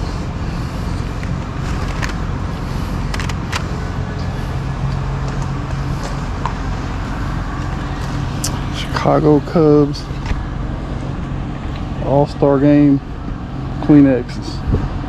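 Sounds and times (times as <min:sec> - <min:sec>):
constant hum: 0:00.0 - 0:15.0
steady low rumble: 0:00.0 - 0:15.0.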